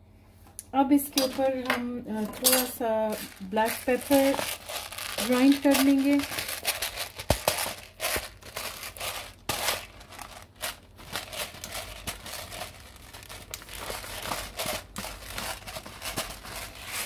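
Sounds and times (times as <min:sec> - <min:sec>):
pepper grinder grating: 0:02.2 - 0:17.0.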